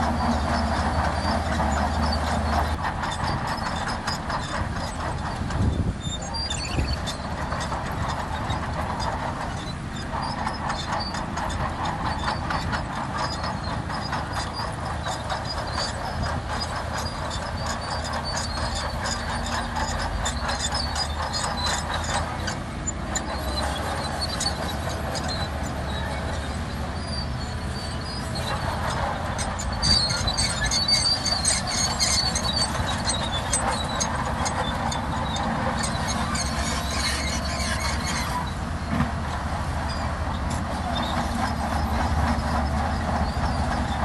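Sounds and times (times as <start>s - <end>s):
diesel engine running: 0.0s - 44.0s
steel tracks clanking and squeaking: 0.0s - 44.0s.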